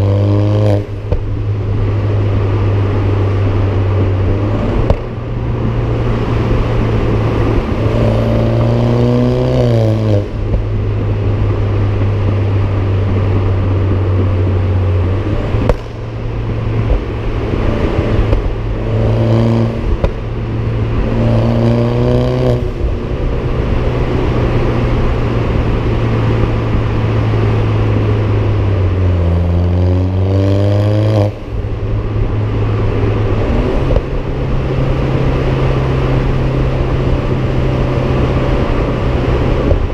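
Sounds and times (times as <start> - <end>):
car accelerating: 0.0 - 39.9
car exhaust drone: 0.0 - 39.9
road noise: 0.0 - 39.9.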